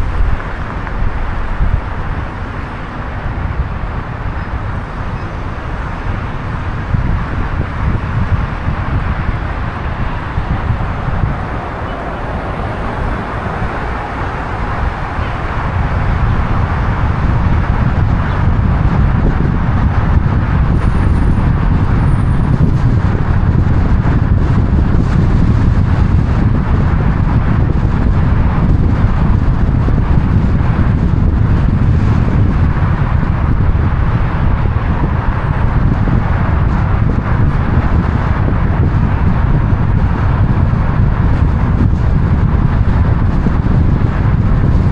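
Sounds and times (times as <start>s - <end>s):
road traffic: 0.0s - 44.9s
wind rumble on microphone: 0.0s - 44.9s.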